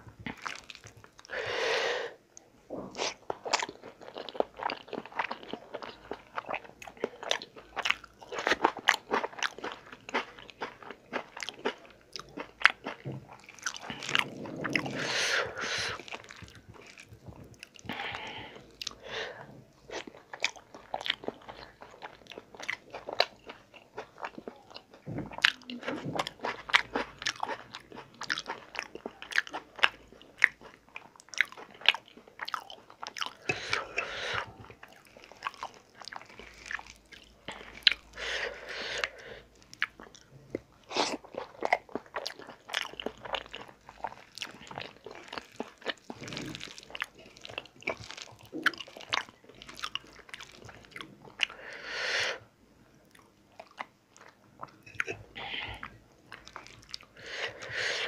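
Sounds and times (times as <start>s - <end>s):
chewing and lip-smacking: 3.1s - 15.0s, 15.9s - 19.0s, 19.9s - 38.2s, 39.0s - 51.6s, 53.0s - 57.8s.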